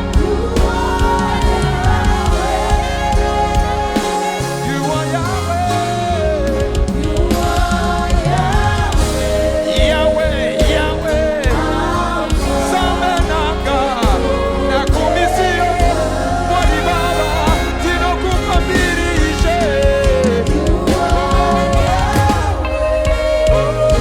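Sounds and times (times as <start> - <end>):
band accompaniment: 0.0 - 24.0
person singing with vibrato: 0.0 - 24.0.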